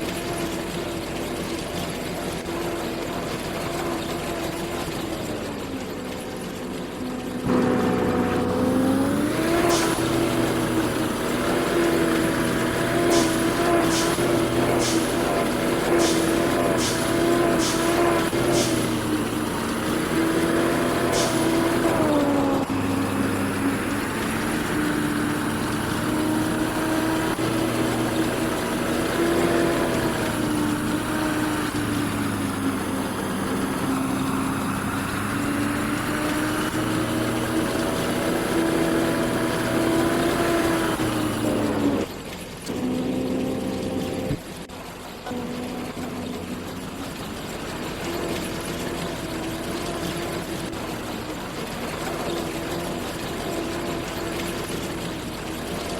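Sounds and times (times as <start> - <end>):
machinery engine running: 0.0 - 55.9.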